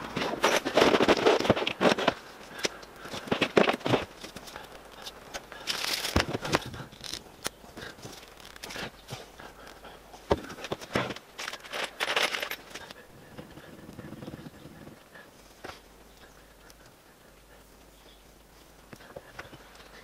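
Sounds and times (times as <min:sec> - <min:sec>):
hands rustling and scraping: 0:00.0 - 0:20.0.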